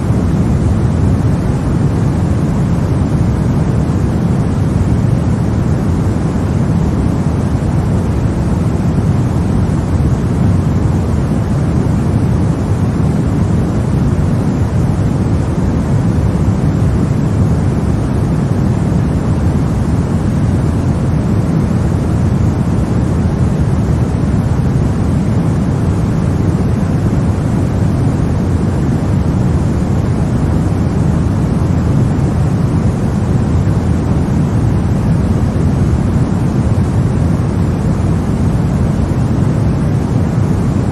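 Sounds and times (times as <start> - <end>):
deep white noise hiss: 0.0 - 40.9.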